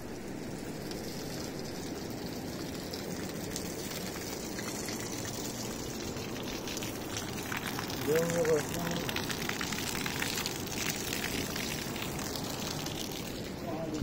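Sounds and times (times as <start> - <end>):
water gushing from pipe: 0.0 - 14.0
water splashing on stone: 0.8 - 14.0.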